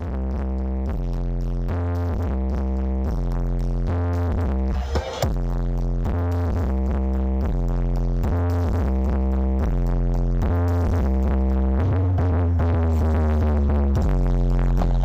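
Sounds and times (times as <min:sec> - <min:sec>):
loud electronic dance music: 0:00.0 - 0:15.0.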